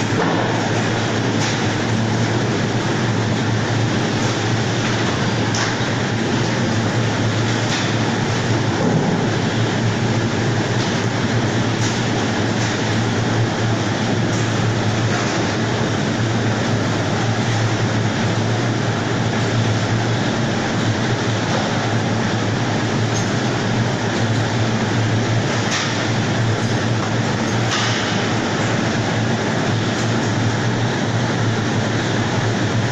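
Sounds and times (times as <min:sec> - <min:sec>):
factory machinery hum: 0:00.0 - 0:32.9.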